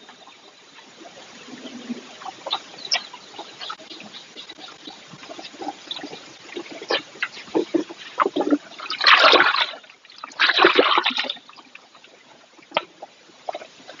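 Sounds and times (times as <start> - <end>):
water dripping: 0.0 - 14.0
water splashing and sloshing: 0.0 - 14.0.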